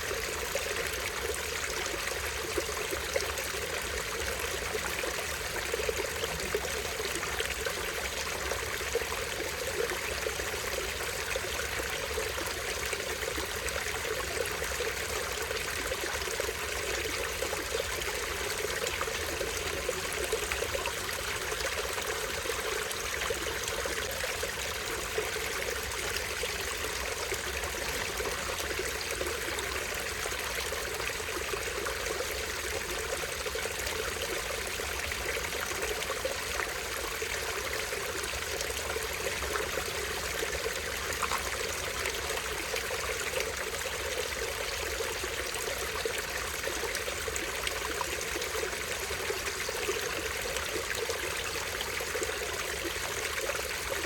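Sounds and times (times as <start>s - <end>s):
stream trickling over small waterfall: 0.0s - 54.0s.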